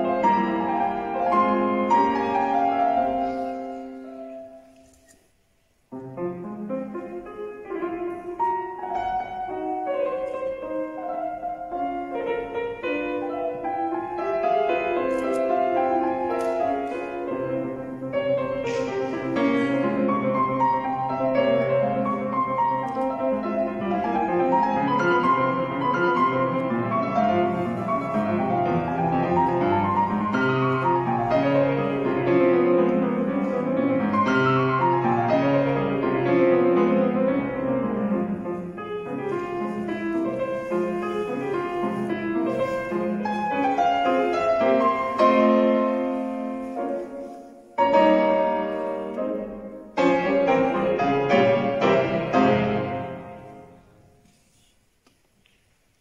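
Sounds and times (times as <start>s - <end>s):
solo classical piano: 0.0s - 56.0s.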